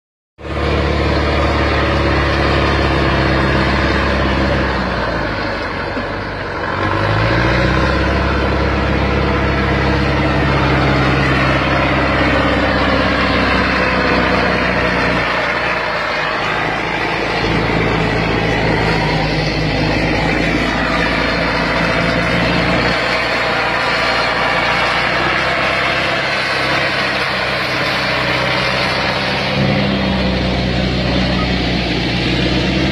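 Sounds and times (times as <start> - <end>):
heavy diesel engine revving: 0.4 - 32.9.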